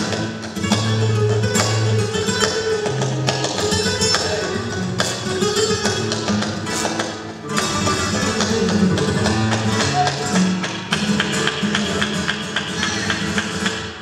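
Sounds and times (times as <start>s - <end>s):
flamenco guitar music: 0.0s - 14.0s.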